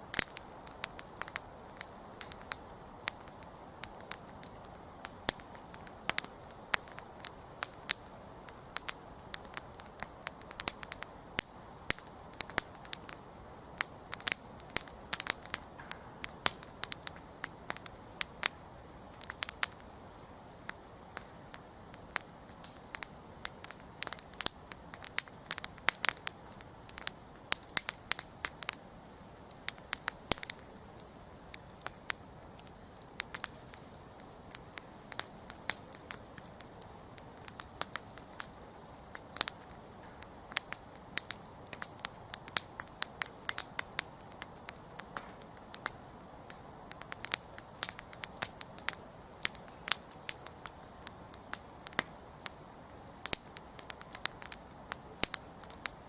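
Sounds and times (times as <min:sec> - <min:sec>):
campfire crackling and popping: 0:00.0 - 0:56.0
flame hissing: 0:00.1 - 0:56.0.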